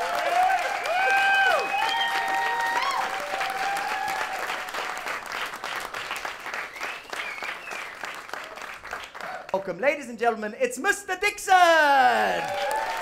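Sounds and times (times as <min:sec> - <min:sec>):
audience applauding: 0:00.0 - 0:09.7, 0:12.0 - 0:13.0.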